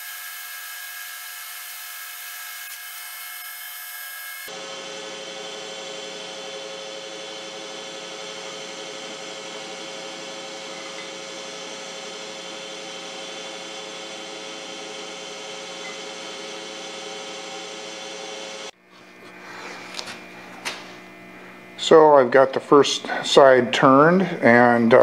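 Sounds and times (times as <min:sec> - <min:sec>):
metal lathe motor humming: 0:00.0 - 0:25.0.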